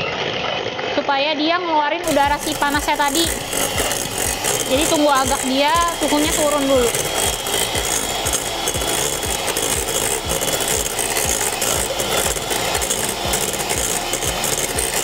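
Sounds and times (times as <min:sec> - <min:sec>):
beaters knocking on steel bowl: 0:02.0 - 0:15.0
electric hand mixer running: 0:02.0 - 0:15.0.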